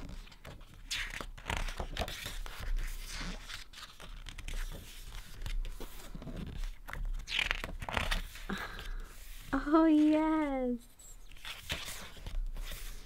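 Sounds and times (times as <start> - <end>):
book pages rustling: 0.0 - 13.0.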